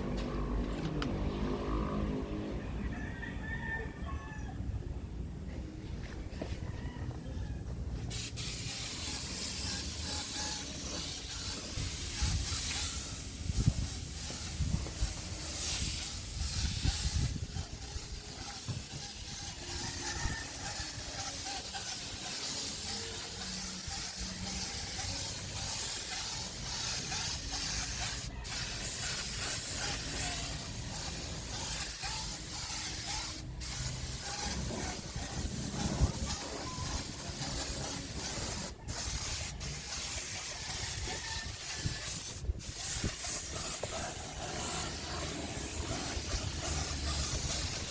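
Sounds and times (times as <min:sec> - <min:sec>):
paint spray gun hissing: 0:08.1 - 0:47.9.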